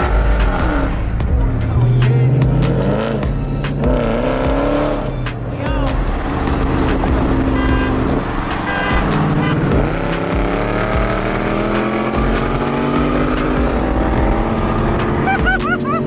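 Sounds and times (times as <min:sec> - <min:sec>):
loud car exhaust accelerating: 0:00.0 - 0:16.0.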